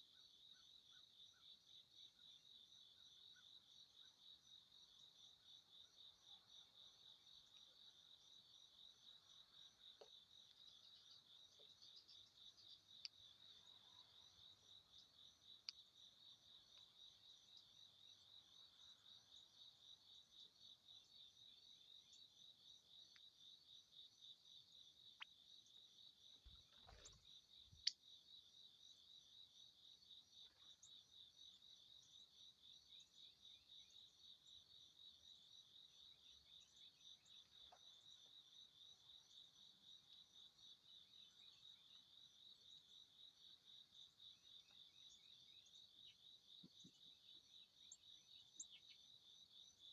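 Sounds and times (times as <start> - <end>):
insect chirping: 0.0 - 49.9.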